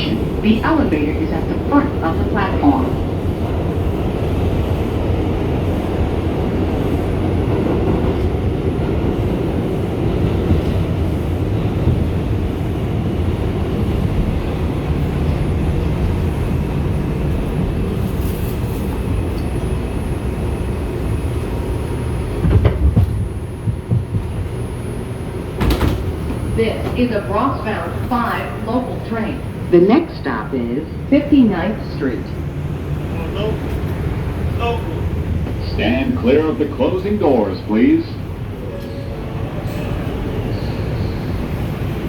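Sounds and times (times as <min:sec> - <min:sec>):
subway train car noise: 0:00.0 - 0:42.0.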